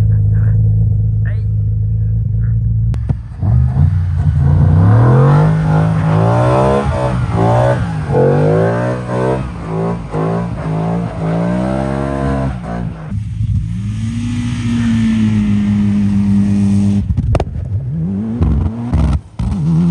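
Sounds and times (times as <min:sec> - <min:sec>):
turbocharged engine revving: 0:03.0 - 0:19.9.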